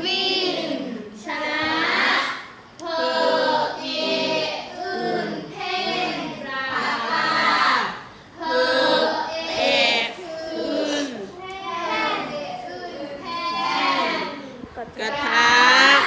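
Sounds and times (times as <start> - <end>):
children chanting together: 0.0 - 16.0.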